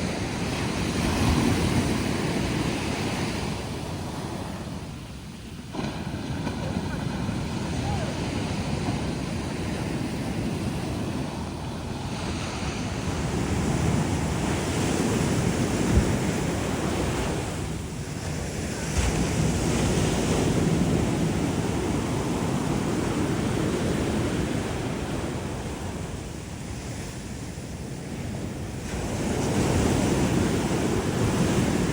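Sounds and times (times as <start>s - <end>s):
ocean surf breaking: 0.0s - 31.9s
wind on microphone: 0.0s - 31.9s.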